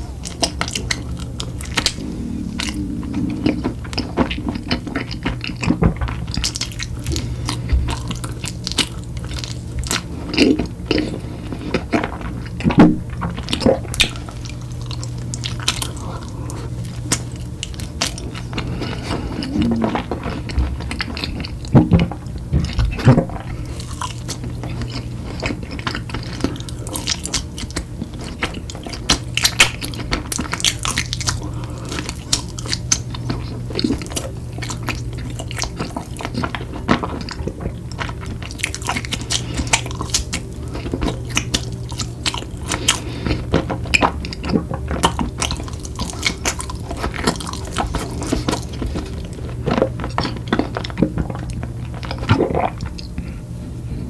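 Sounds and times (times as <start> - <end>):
person chewing and crunching: 0.0 - 53.4
steady low hum: 0.0 - 54.0.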